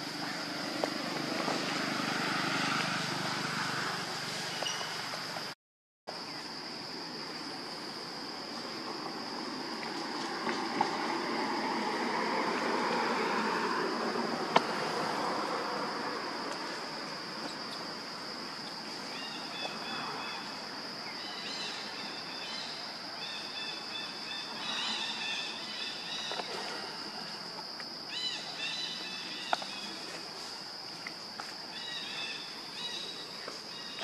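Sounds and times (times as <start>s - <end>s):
insect drone: 0.0s - 34.0s.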